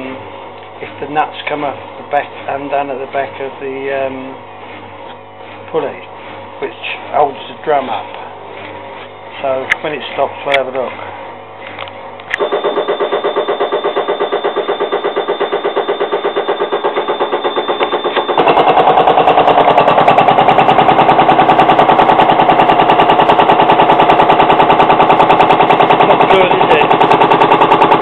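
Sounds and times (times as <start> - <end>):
washing machine spin cycle knocking: 0.8 - 11.7, 12.4 - 28.0.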